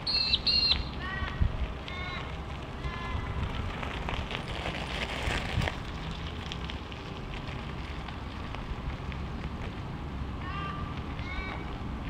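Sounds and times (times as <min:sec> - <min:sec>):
crunching over loose gravel: 0:00.8 - 0:12.0.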